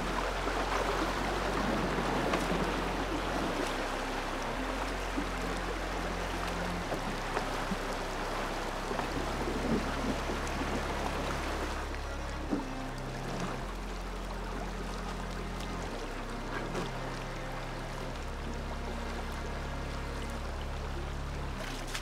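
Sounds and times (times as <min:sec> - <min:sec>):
low music drone: 0:00.0 - 0:22.0
river rushing over boulders: 0:00.0 - 0:22.0.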